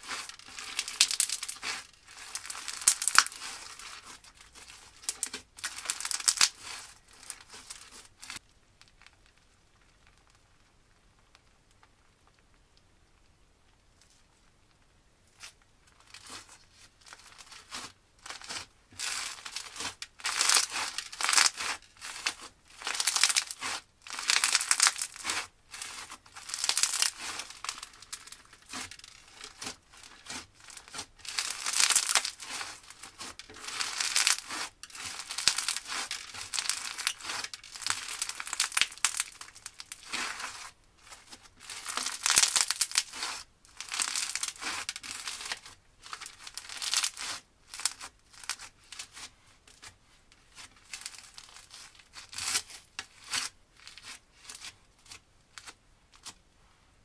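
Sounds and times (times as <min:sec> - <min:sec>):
crunchy slime squished by hand: 0:00.0 - 0:08.4, 0:15.3 - 0:56.4.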